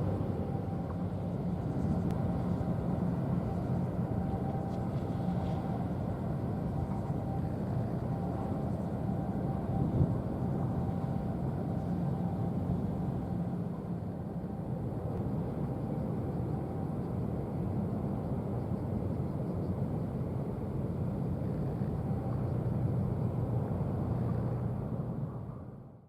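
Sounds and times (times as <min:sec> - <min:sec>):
ship diesel engine droning: 0:00.0 - 0:25.8.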